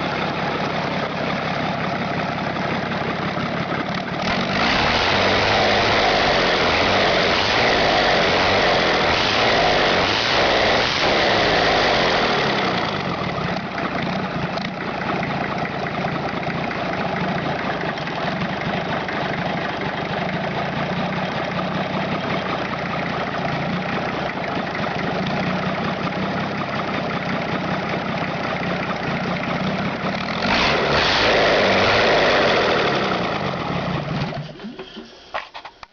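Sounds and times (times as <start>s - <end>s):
truck engine running: 0.0s - 35.8s.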